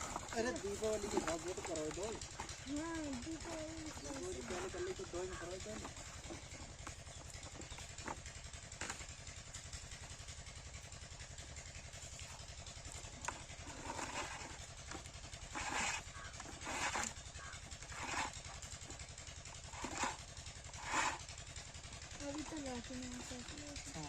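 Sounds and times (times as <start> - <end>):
diesel pump engine chugging: 0.0 - 24.0.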